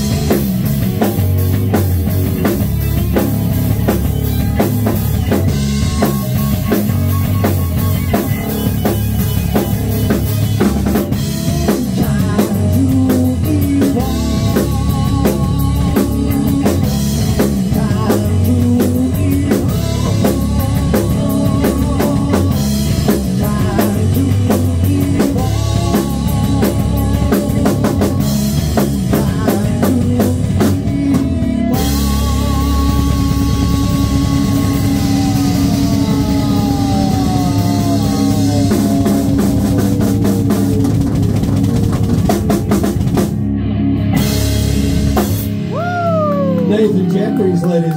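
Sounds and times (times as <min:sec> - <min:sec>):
drum kit: 0:00.0 - 0:47.8
live rock band playing: 0:00.0 - 0:47.9.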